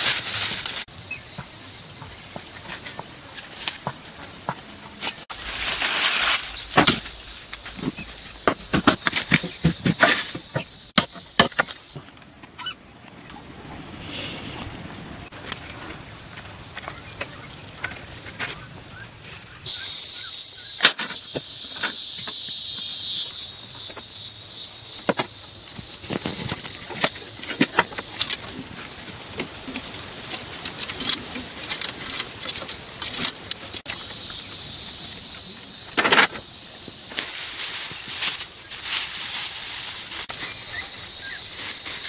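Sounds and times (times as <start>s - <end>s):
high insect chirring: 5.3s - 42.0s.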